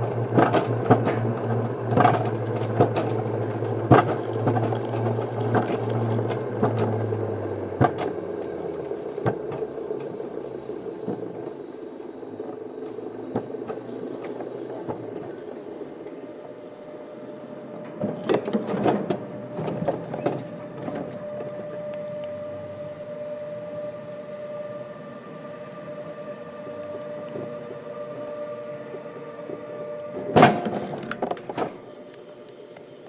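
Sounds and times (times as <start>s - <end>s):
coaster sled rumbling on rails: 0.0s - 32.5s
steady hum: 0.0s - 33.0s.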